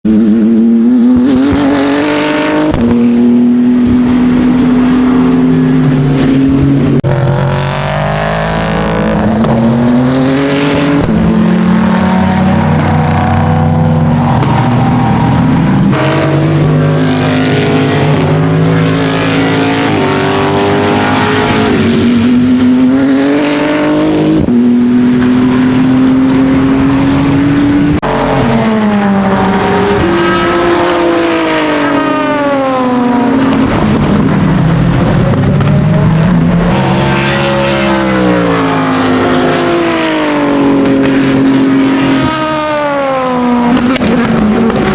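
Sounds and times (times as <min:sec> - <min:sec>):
race car engine revving: 0:00.1 - 0:44.9.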